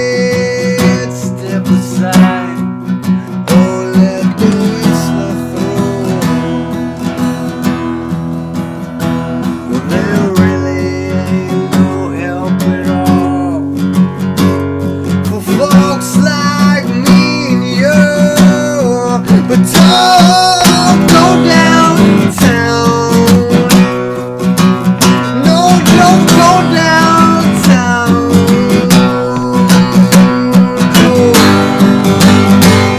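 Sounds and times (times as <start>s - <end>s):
person singing: 0.0s - 8.5s, 9.4s - 14.2s, 15.2s - 32.9s
acoustic guitar strumming: 0.0s - 32.9s.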